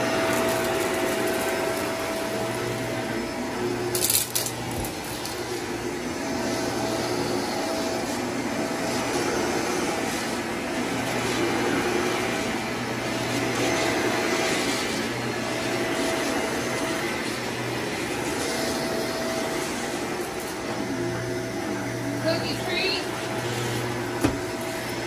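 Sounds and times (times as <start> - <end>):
vacuum cleaner running over carpet: 0.0 - 25.0.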